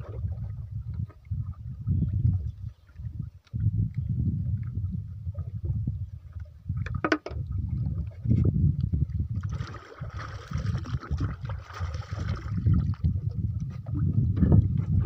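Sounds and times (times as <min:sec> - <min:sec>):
water sloshing against boat: 0:00.0 - 0:15.0
wind buffeting microphone: 0:00.0 - 0:15.0.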